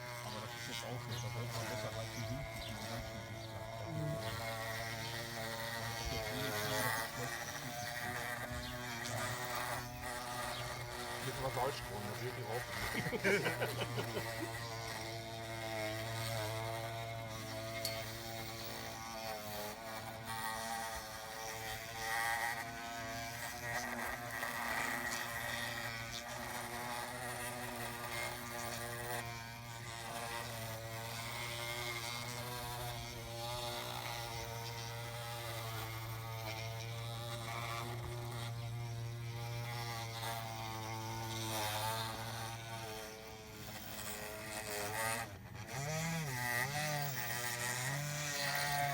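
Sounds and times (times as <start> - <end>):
electric motors whining: 0.0 - 48.9.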